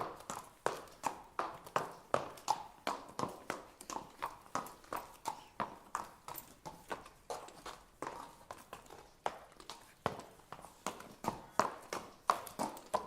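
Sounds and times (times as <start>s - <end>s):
horse hooves clip-clopping: 0.0s - 13.0s.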